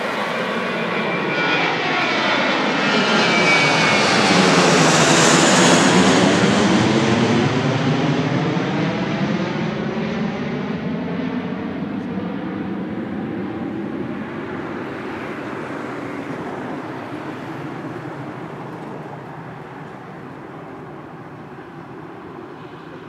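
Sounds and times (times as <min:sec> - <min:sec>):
airliner engine noise: 0:00.0 - 0:23.0.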